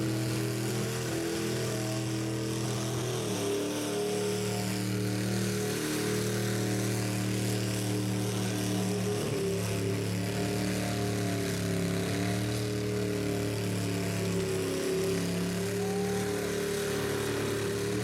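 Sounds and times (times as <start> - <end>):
engine at high revs: 0.0 - 18.0.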